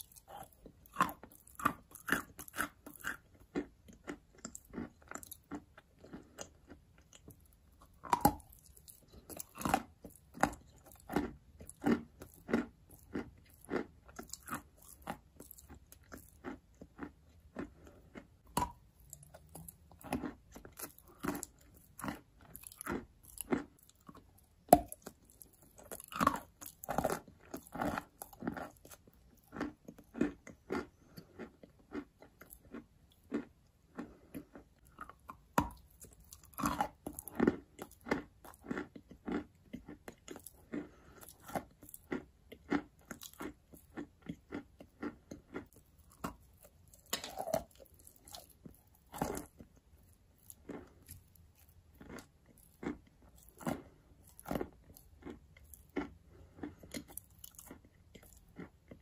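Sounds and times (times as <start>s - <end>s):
person chewing chalk crunches: 0.0s - 59.0s.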